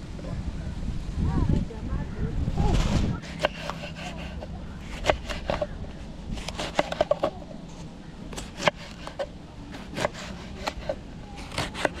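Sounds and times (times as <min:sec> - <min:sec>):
low steady background: 0:00.0 - 0:12.0.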